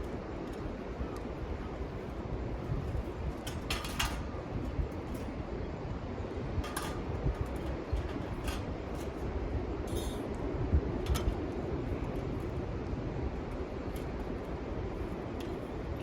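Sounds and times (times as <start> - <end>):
steady low rumble: 0.0 - 16.0
metal camping gear clinking: 0.4 - 5.4, 6.6 - 12.7, 13.4 - 16.0.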